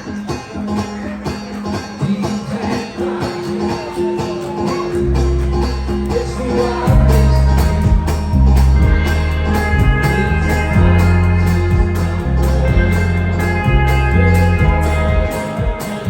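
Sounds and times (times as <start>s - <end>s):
live band playing: 0.0s - 16.0s
strummed guitars: 0.0s - 16.0s
heavy bass line: 2.9s - 16.0s.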